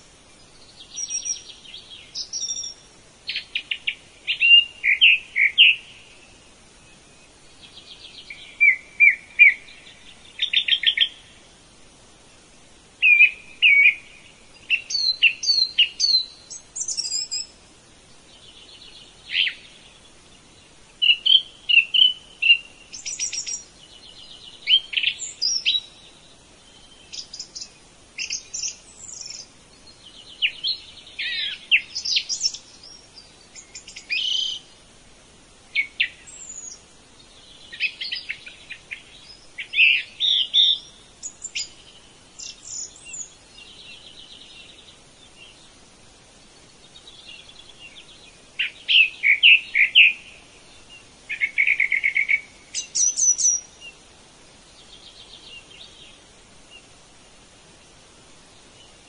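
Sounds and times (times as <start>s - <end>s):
birds singing and chirping: 0.0s - 11.4s, 12.3s - 34.9s, 35.7s - 57.0s.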